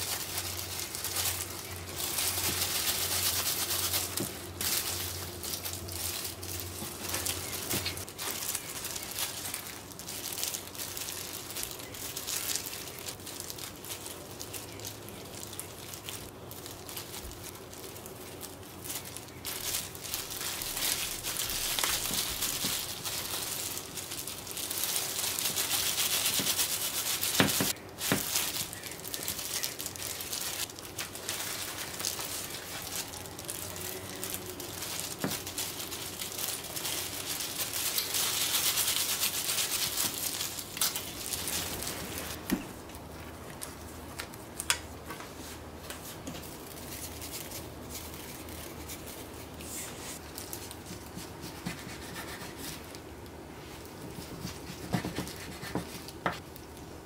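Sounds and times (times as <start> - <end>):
rustling and crinkling: 0.0 - 57.0.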